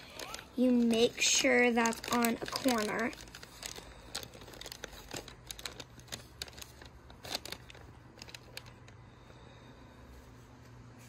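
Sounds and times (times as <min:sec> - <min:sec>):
paper bag rustling and crinkling: 0:00.0 - 0:09.0.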